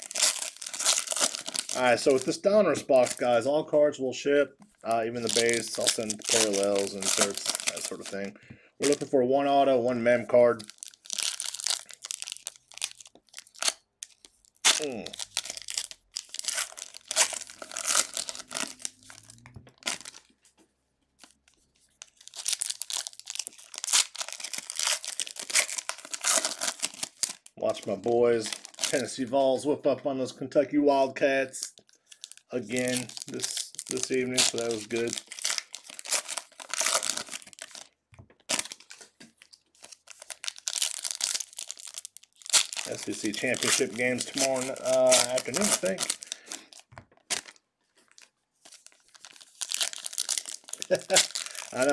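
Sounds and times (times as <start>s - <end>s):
foil wrappers tearing and crinkling: 0.0s - 3.4s, 5.1s - 9.1s, 10.4s - 20.3s, 21.2s - 27.8s, 28.4s - 29.2s, 31.8s - 51.9s.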